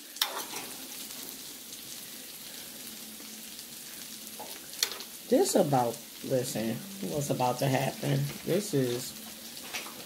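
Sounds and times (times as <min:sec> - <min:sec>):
sauce bubbling and sizzling: 0:00.0 - 0:10.0.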